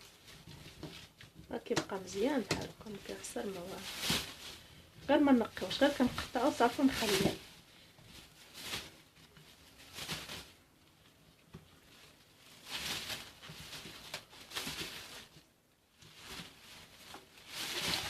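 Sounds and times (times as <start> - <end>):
plastic bag rustling and crinkling: 0.0 - 18.0.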